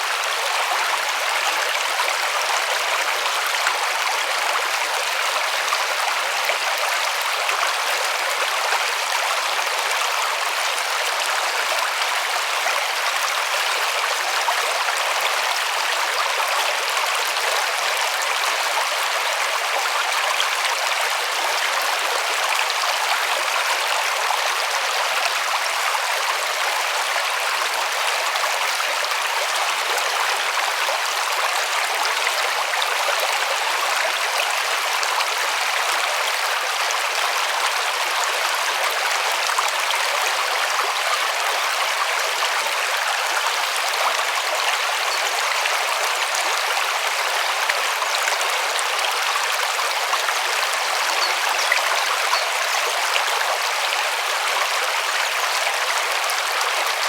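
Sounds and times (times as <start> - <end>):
river running over stones: 0.0 - 57.0.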